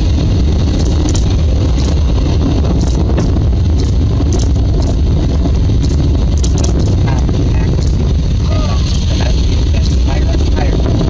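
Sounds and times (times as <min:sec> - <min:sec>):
distant rocket rumble: 0:00.0 - 0:11.0.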